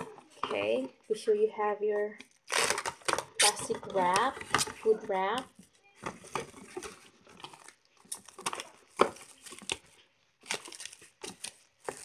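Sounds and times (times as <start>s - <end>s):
plastic food wrap crinkling: 2.3s - 12.0s.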